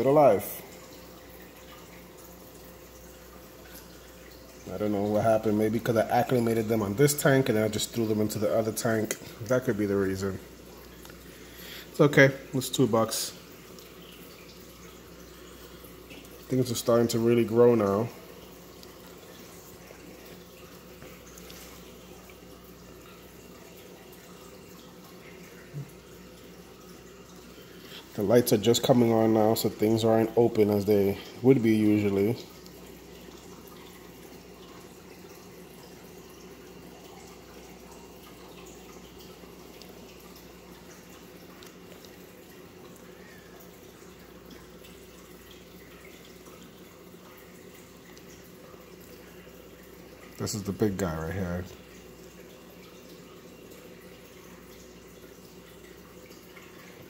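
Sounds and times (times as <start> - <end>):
faint steady hum: 0.0 - 57.0
running water in aquarium: 0.0 - 57.0.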